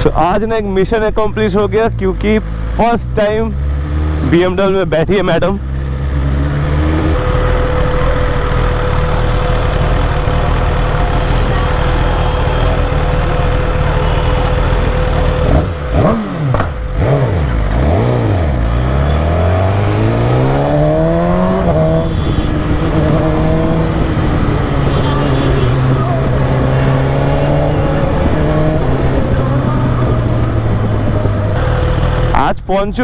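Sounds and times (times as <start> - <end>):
motorcycle engine revving: 2.1 - 4.7, 5.4 - 32.5.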